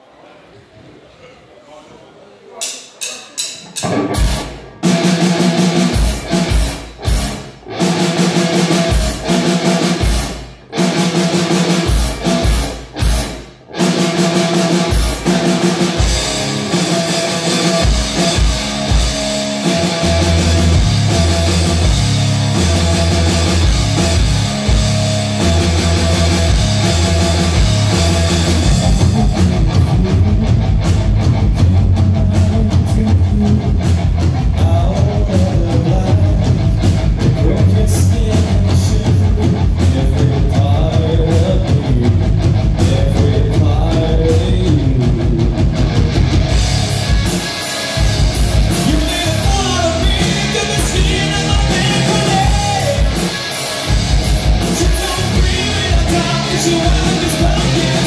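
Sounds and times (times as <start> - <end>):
drum kit: 2.6 - 58.0
bending melodic guitar lead: 3.8 - 58.0
electric guitars: 3.8 - 58.0.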